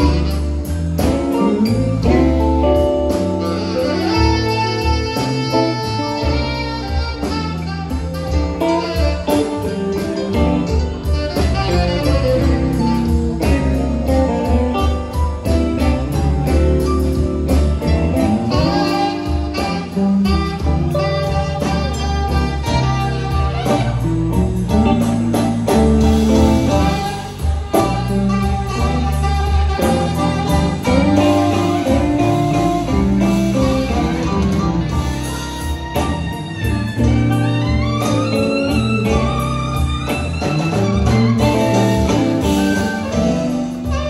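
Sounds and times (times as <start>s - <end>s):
drums with steady beat: 0.0s - 44.0s
electric guitars: 0.0s - 44.0s
saxophone: 0.0s - 44.0s.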